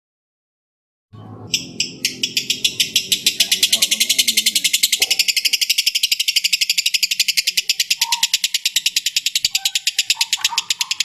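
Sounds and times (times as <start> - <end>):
lovebird chattering trill: 1.5 - 11.0.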